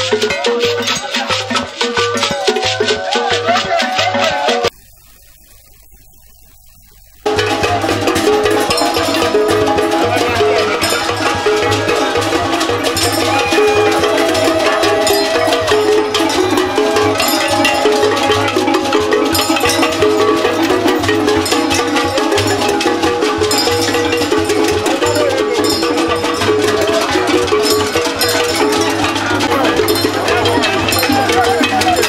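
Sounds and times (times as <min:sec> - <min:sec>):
percussion-led music: 0:00.0 - 0:32.0.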